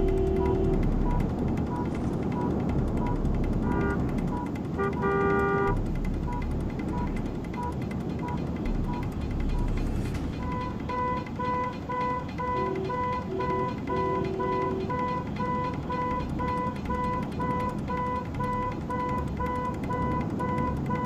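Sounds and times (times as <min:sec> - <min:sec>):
car horns honking: 0:00.0 - 0:21.0
traffic noise: 0:00.0 - 0:21.0.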